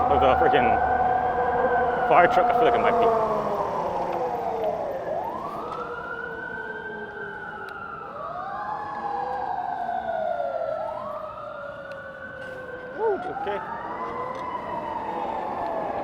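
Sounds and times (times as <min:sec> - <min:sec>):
fire truck siren wailing: 0:00.0 - 0:16.0.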